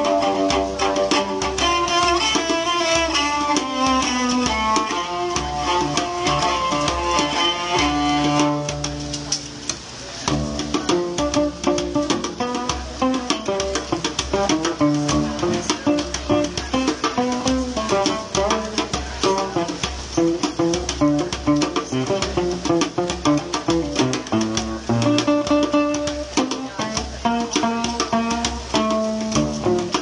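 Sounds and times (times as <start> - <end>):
percussion beat: 0.0 - 30.0
plucked guitar: 0.0 - 30.0.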